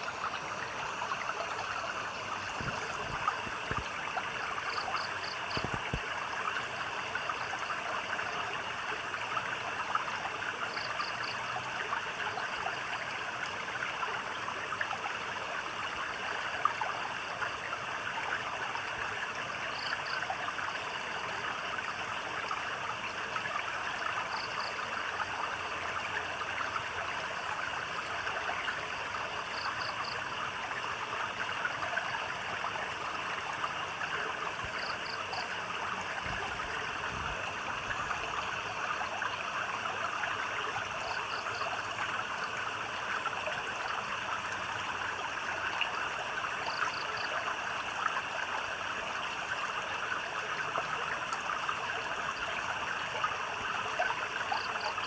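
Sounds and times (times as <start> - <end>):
stream babbling: 0.0 - 10.8, 20.9 - 55.0.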